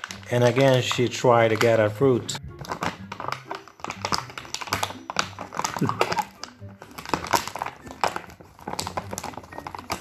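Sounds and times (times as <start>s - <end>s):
background music: 0.0s - 10.0s
plastic bag crinkling: 0.0s - 10.0s.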